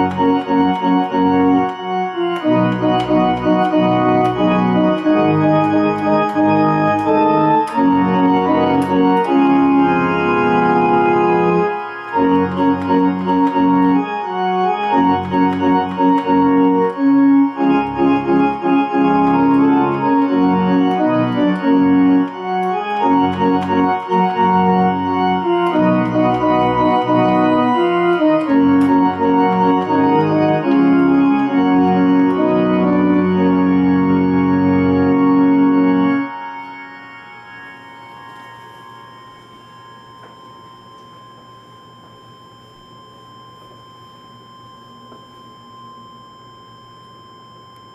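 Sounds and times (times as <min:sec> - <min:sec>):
electronic organ playing a hymn: 0:00.0 - 0:42.9.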